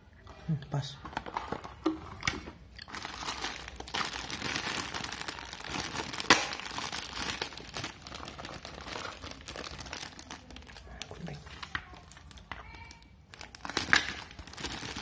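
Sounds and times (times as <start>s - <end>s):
plastic bag crinkling: 0.8s - 15.0s.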